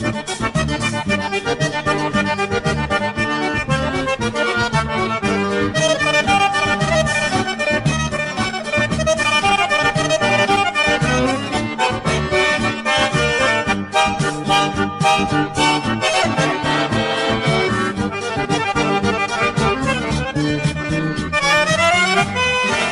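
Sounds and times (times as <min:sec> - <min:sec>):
accordion music: 0:00.0 - 0:22.9
steady bass beat: 0:00.0 - 0:22.9.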